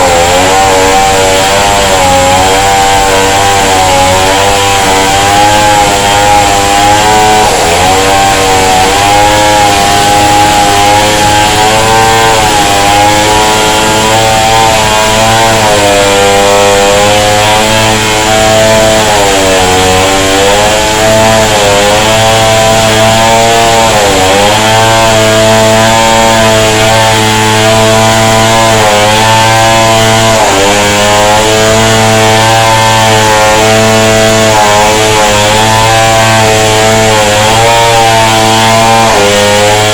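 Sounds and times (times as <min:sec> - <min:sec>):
chainsaw cutting into wall: 0:00.0 - 0:39.9.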